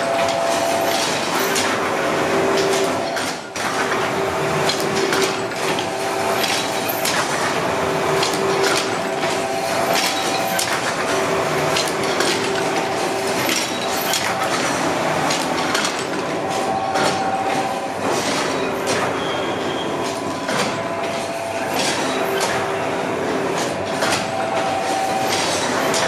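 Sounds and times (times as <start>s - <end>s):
machinery clattering: 0.0s - 26.0s.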